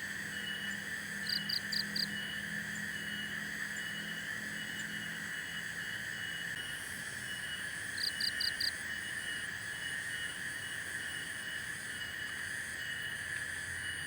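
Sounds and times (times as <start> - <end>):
frogs and insects trilling: 0.0 - 14.0.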